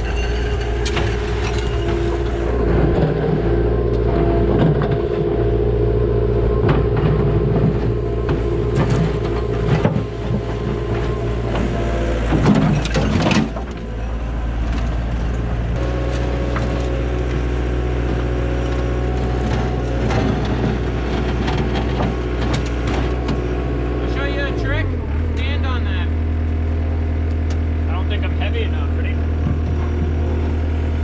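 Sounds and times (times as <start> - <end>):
heavy equipment engine running: 0.0 - 31.0.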